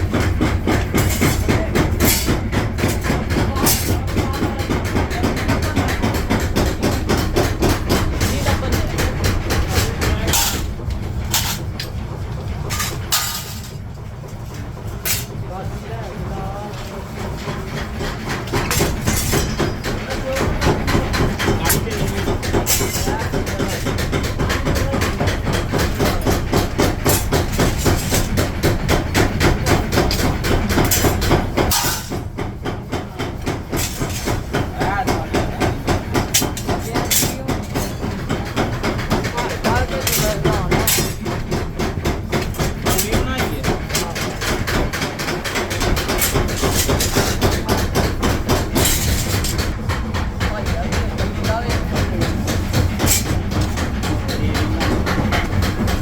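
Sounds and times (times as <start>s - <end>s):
rapid hammering on steel: 0.0s - 56.0s
workshop machinery droning: 0.0s - 56.0s.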